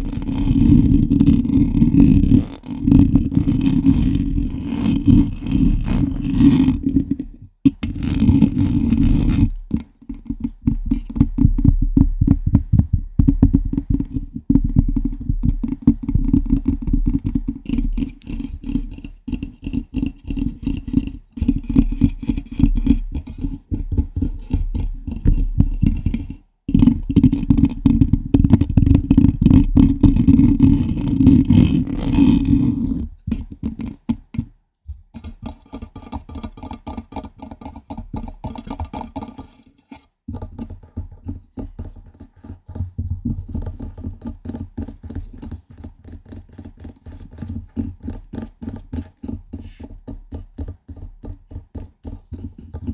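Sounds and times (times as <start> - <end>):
fingers scratching a microphone: 0.0 - 52.9.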